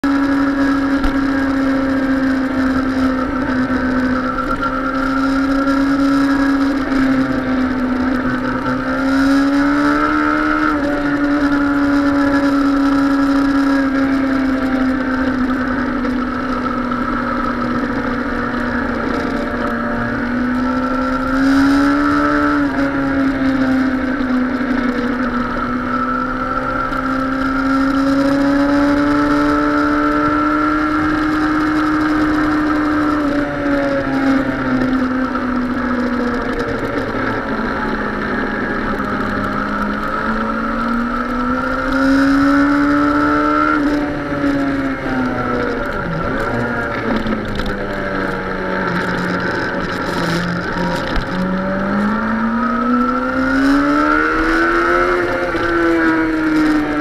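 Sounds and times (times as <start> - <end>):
motorcycle engine accelerating: 0.0 - 57.0
wind noise: 0.0 - 57.0.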